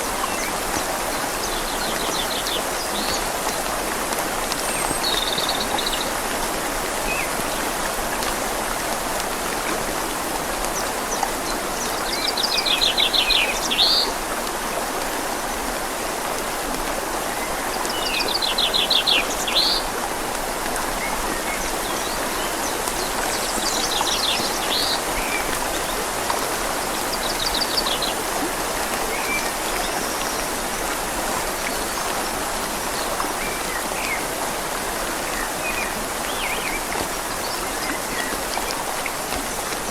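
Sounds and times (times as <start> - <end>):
rain falling on leaves: 0.0 - 39.9
river flowing: 0.0 - 39.9.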